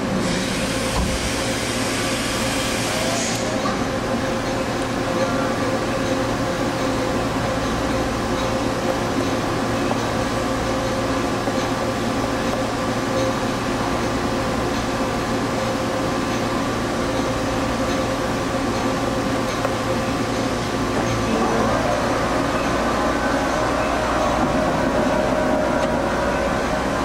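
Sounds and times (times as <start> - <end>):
machine hum with held tones: 4.2 - 27.0.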